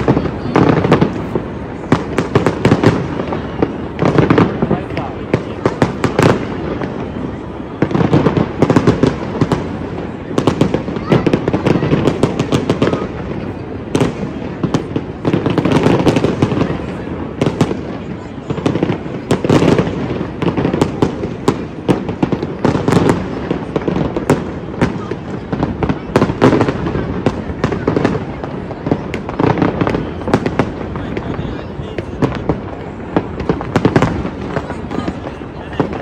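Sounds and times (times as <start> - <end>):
fireworks bursting with sharp bangs: 0.0 - 36.0.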